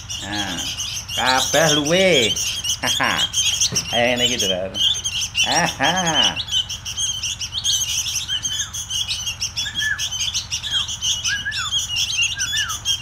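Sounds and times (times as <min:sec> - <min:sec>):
young birds chirping for food: 0:00.0 - 0:13.0.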